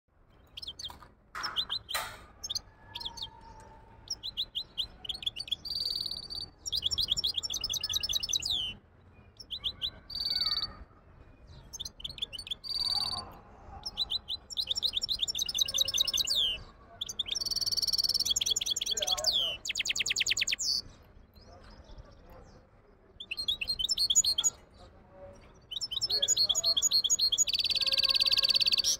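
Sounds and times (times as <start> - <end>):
finch singing: 0.3 - 24.8, 25.5 - 28.9.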